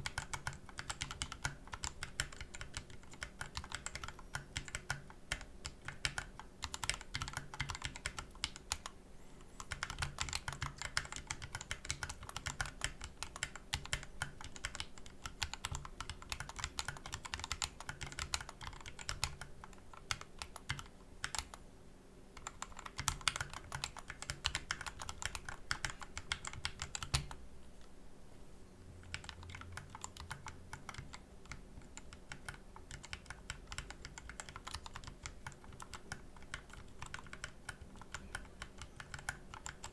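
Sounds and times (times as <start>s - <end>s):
keyboard typing: 0.0s - 9.0s, 9.6s - 21.6s, 22.4s - 27.4s, 29.0s - 39.9s.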